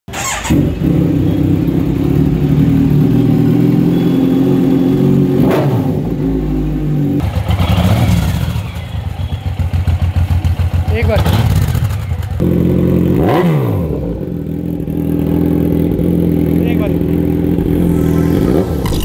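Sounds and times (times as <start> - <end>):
motorcycle engine at raised revs: 0.1 - 19.0
motorcycle loping idle: 0.2 - 5.4, 6.1 - 13.2, 13.9 - 18.6.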